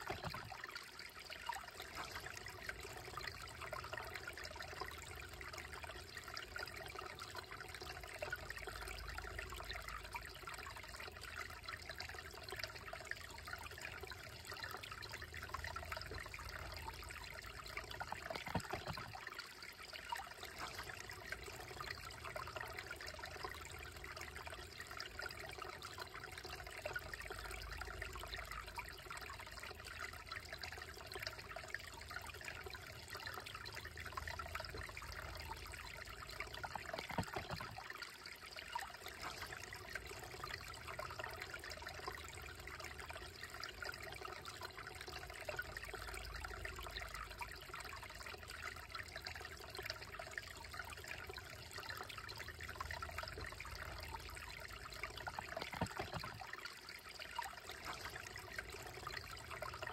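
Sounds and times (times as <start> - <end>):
creek trickling over stones: 0.0 - 59.9.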